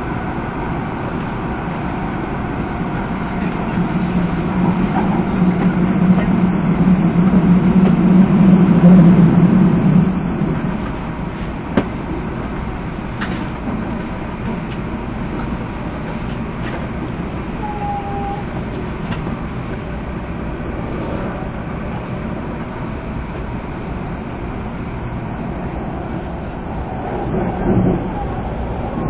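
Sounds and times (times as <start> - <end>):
train rumble in tunnel: 0.0 - 29.0.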